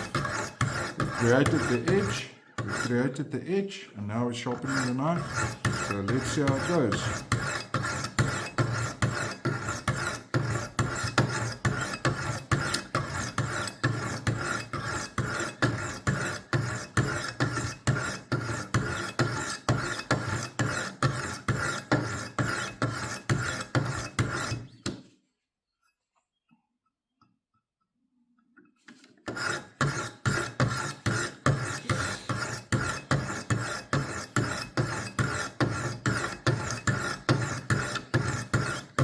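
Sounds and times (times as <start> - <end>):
sharpening stones rasping on knife: 0.0 - 3.2, 4.6 - 24.8, 29.3 - 39.0.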